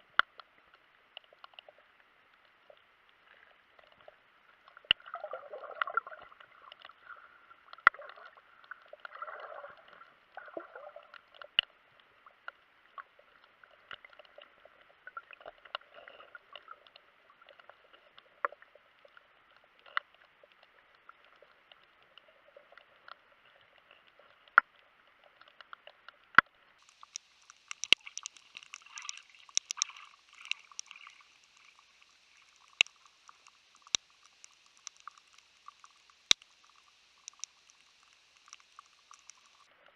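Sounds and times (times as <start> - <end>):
muffled underwater hiss: 0.0 - 39.9
sharp underwater clicks and crackles: 0.0 - 39.9.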